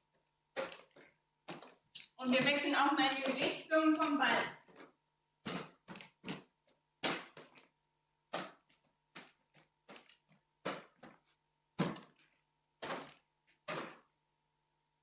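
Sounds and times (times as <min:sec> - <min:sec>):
balls thudding on wooden floor: 0:00.5 - 0:07.7, 0:08.3 - 0:14.1.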